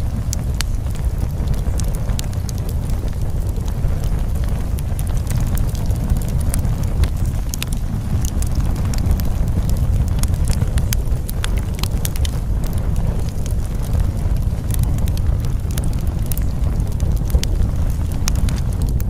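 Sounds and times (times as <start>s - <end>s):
fire crackling: 0.0s - 19.0s.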